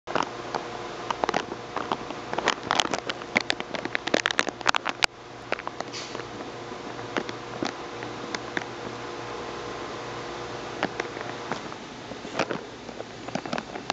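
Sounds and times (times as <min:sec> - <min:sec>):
steady hum: 0:00.1 - 0:13.9.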